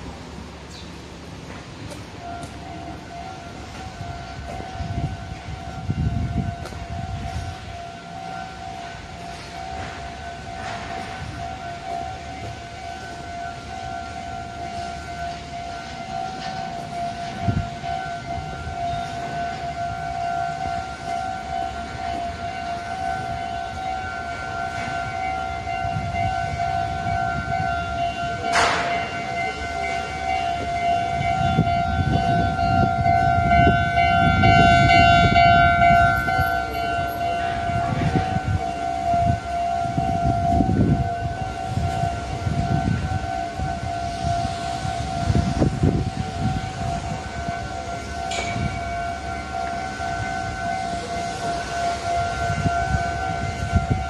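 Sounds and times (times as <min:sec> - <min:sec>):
level-crossing warning bell: 0:00.0 - 0:54.0.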